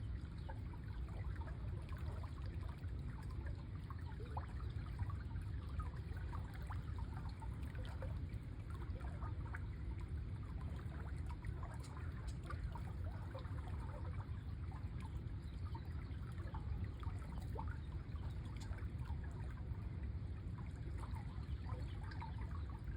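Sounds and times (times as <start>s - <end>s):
small water splashes: 0.0s - 22.9s
stream water trickling and babbling: 0.0s - 22.9s.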